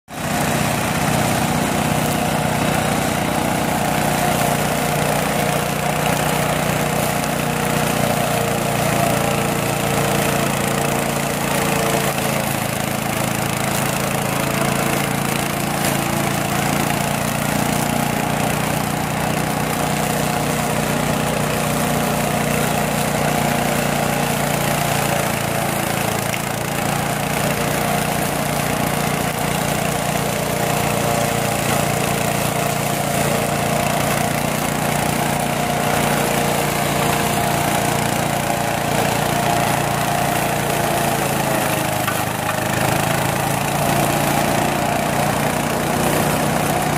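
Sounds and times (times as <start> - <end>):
mower cutting tall grass: 0.1 - 46.9
mower engine running: 0.1 - 46.9.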